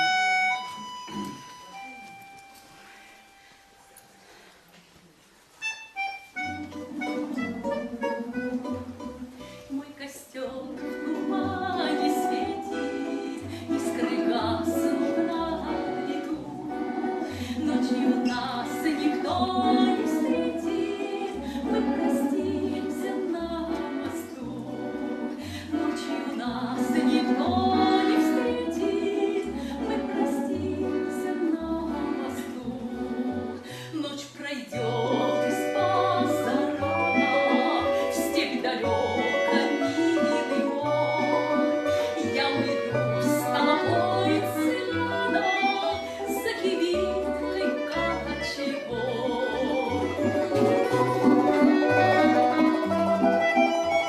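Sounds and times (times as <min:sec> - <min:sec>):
plucked string accompaniment: 0:00.0 - 0:04.2, 0:05.6 - 0:33.8, 0:34.5 - 0:54.0
woman singing: 0:09.7 - 0:53.8.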